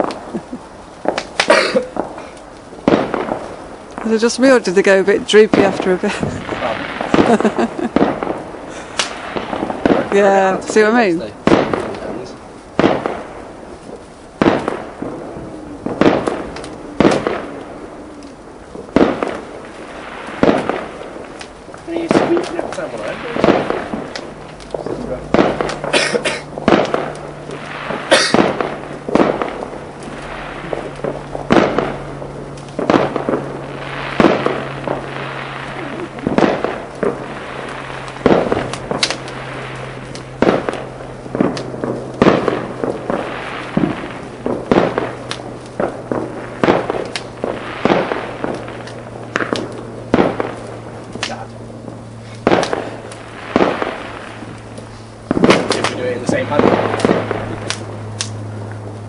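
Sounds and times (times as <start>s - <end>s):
fireworks bangs and cracks: 0.0s - 59.0s
low steady hum: 0.0s - 59.0s.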